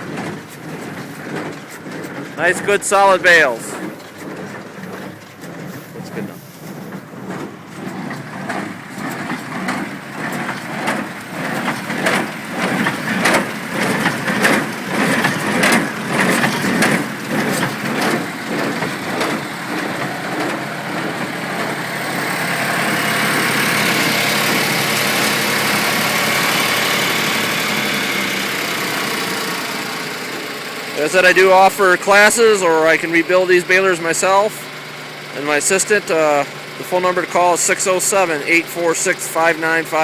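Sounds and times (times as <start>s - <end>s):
baler running noise: 0.0s - 40.0s
hay baler plunger knocking: 0.0s - 40.0s.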